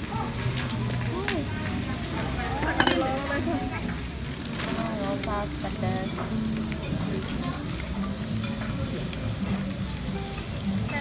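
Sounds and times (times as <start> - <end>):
steak sizzling on hot plate: 0.0 - 11.0.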